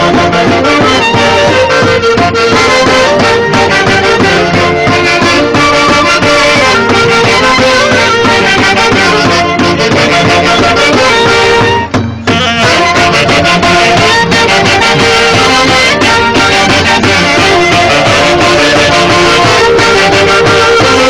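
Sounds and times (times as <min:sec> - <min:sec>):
wind instrument band music: 0:00.0 - 0:21.0.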